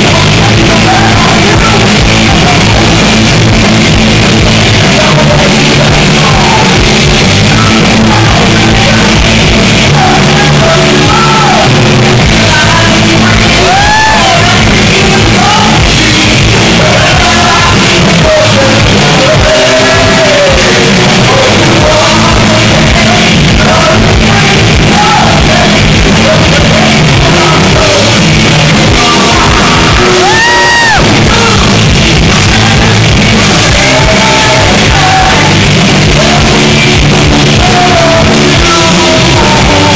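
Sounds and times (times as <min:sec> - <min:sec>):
electric guitars: 0:00.0 - 0:39.9
live rock band playing: 0:00.0 - 0:39.9
shouted vocals: 0:00.0 - 0:39.9.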